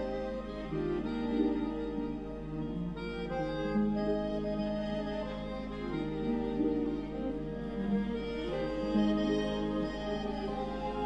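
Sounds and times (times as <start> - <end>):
slow background music: 0.0 - 11.0.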